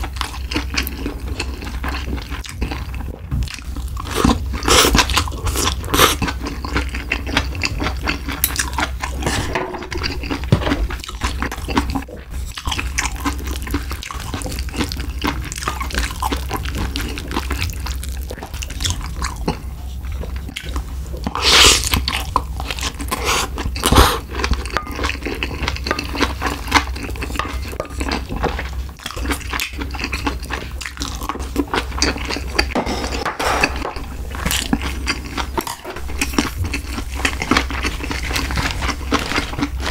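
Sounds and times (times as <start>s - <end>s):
wet chewing and mouth sounds: 0.0s - 39.9s.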